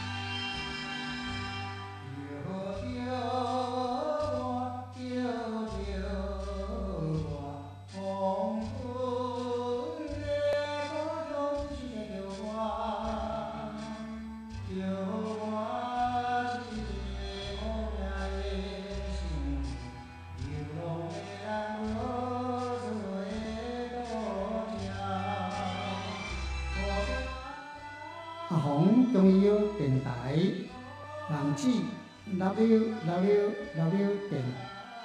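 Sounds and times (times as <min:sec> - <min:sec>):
slow melody: 0:00.0 - 0:35.0.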